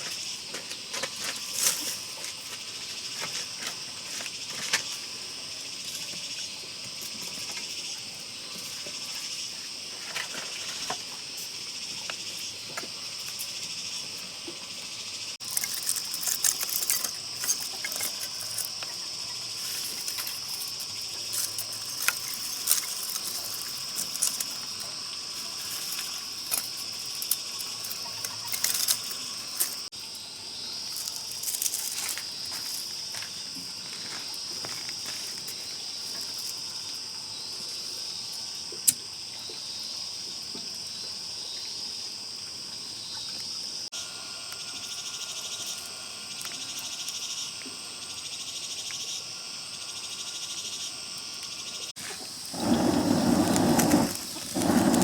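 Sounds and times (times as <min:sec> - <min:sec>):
insects chorusing: 0:00.0 - 0:40.1, 0:42.9 - 0:55.0.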